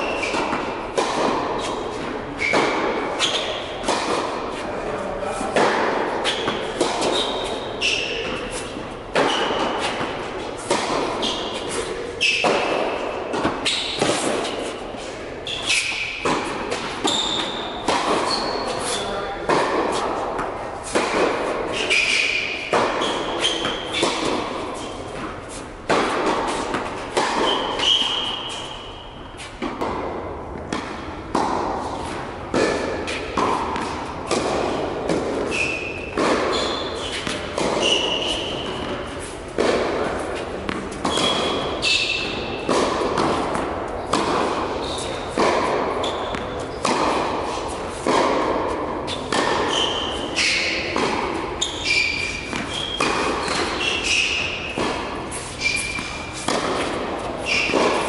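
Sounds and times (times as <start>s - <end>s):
shoes squeaking on court: 0.0s - 4.7s, 6.2s - 20.2s, 21.7s - 29.6s, 33.1s - 48.4s, 49.0s - 58.0s
tennis balls struck by rackets: 0.0s - 58.0s.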